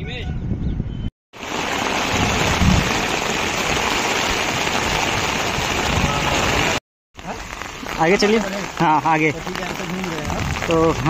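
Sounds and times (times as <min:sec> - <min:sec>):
heavy rain pouring: 0:01.3 - 0:11.0.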